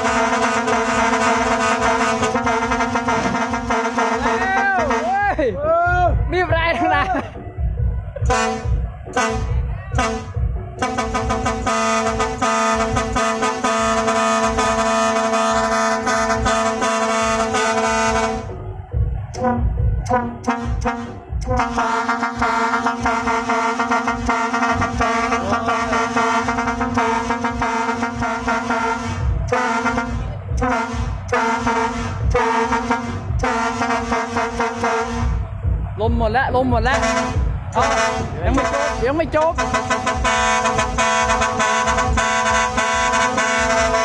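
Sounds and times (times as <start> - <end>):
truck air horn blaring: 0.0 - 5.4, 8.2 - 18.6, 19.3 - 35.6, 36.9 - 44.0
truck engine running: 0.0 - 44.0.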